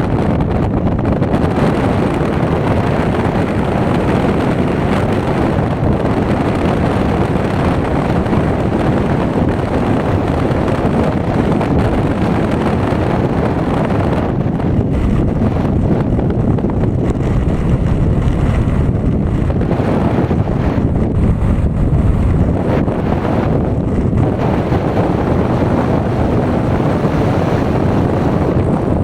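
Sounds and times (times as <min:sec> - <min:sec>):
wind noise on microphone: 0:00.0 - 0:29.0.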